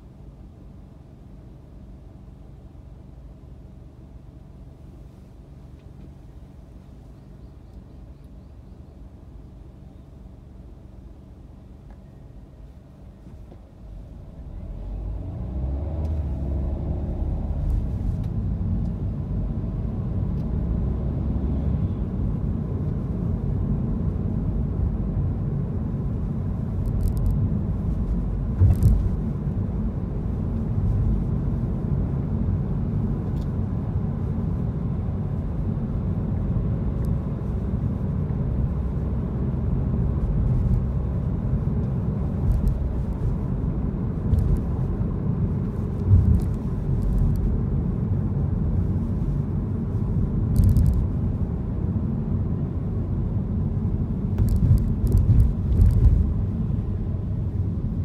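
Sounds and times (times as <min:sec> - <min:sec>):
car driving road noise: 0:00.0 - 0:58.0.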